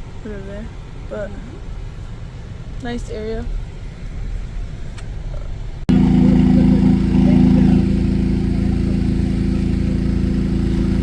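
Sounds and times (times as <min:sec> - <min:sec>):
moving vehicle rumble: 0:00.0 - 0:11.0
steady engine drone: 0:00.0 - 0:11.0.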